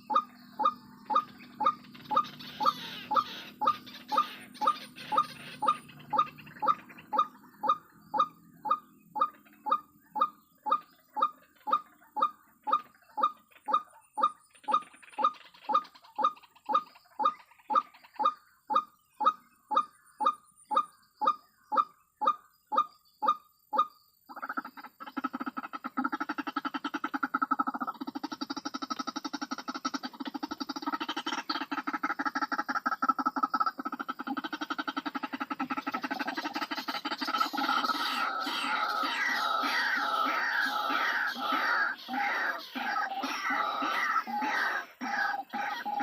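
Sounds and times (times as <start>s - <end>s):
bird honking calls: 0.0s - 46.0s.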